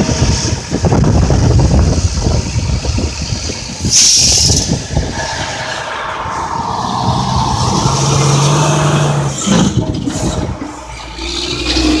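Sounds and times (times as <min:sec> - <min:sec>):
traffic: 0:00.0 - 0:12.0
truck diesel engine droning: 0:00.0 - 0:12.0
trailer rolling past: 0:01.8 - 0:12.0.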